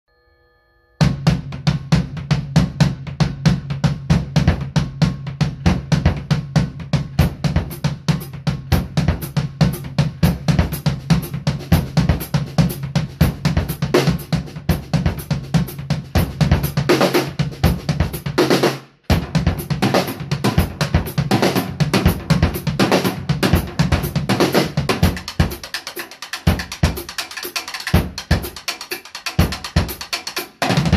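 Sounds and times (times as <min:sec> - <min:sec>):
drum kit playing: 0:01.0 - 0:30.9.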